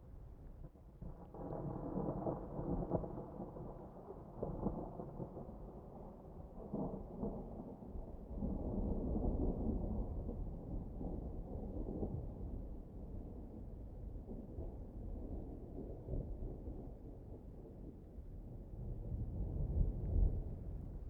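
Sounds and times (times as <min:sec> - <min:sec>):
thunder rumbling: 0:01.0 - 0:21.0.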